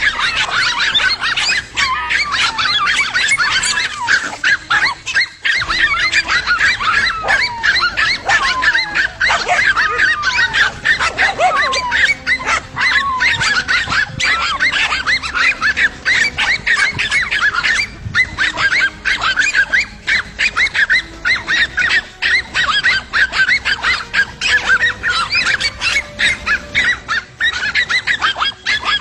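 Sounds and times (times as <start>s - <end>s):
dog whining: 0.0s - 29.0s
dogs barking: 0.0s - 29.0s.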